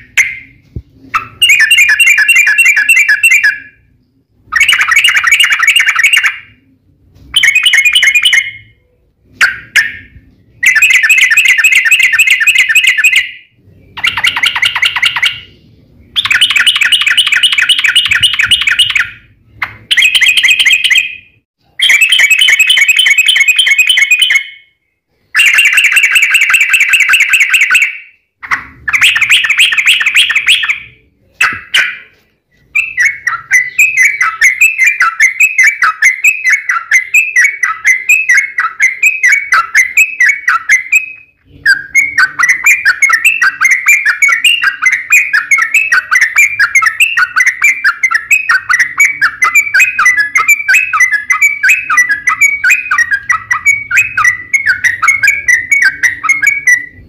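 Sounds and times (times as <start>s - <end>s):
bird singing chattering phrases: 0.0s - 6.7s, 7.3s - 24.6s, 32.8s - 57.0s.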